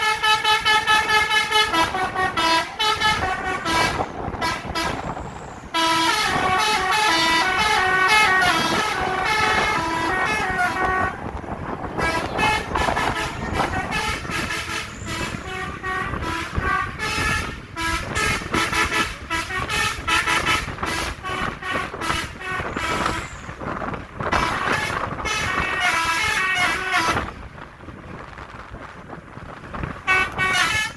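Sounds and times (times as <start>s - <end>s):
multi-tone musical bus horn: 0.0s - 27.6s, 29.8s - 30.9s
vehicle noise: 0.0s - 30.9s.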